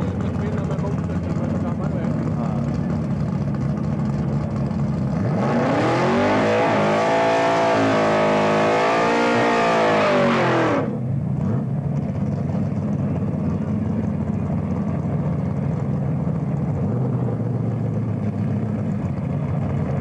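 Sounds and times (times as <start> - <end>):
drag car engine revving: 0.0 - 20.0.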